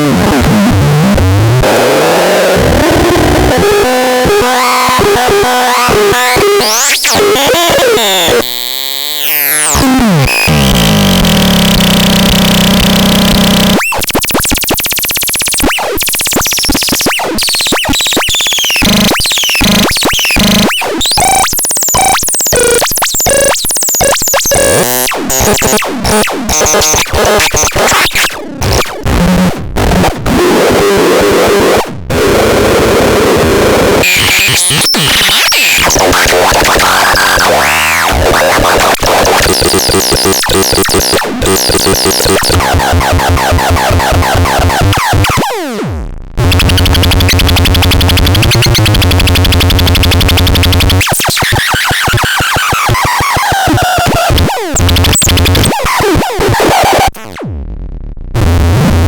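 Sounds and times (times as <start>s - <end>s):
harsh electronic synthesizer noise: 0.0s - 59.0s.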